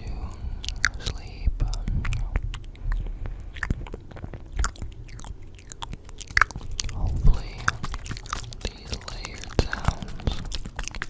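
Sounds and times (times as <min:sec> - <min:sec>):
wet mouth clicks and smacks: 0:00.0 - 0:11.0.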